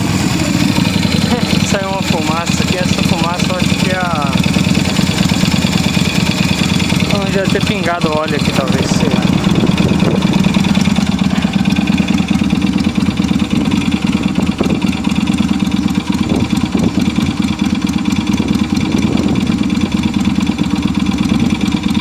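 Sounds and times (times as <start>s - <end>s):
motorcycle engine idling with clatter: 0.0s - 22.0s.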